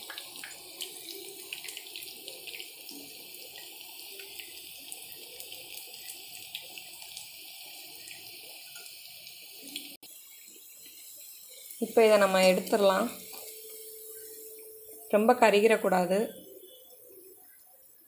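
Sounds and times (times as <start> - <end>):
fritters deep-frying in hot oil: 0.0 - 18.0.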